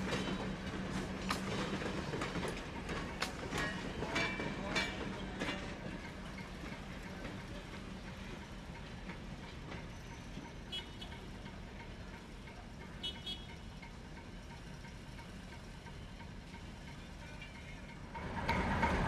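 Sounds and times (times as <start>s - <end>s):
diesel locomotive low rumble: 0.0s - 19.0s.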